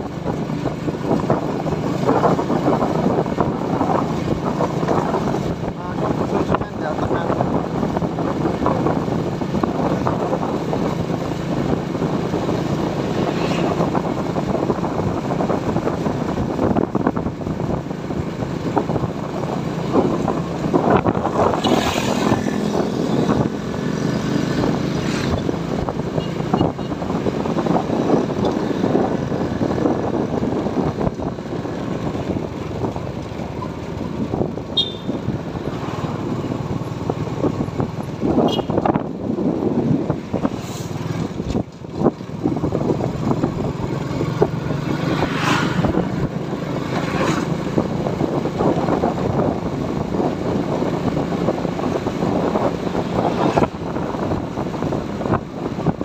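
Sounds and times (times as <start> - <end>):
motorcycle engine running: 0.0 - 56.0
other motorbikes: 0.0 - 56.0
wind rush on microphone: 0.0 - 56.0.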